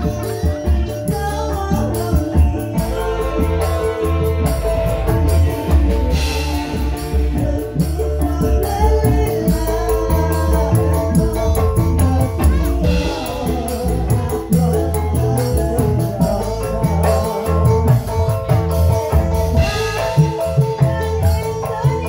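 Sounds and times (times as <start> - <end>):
live band music: 0.0 - 22.0
woman singing into microphone: 0.0 - 22.0.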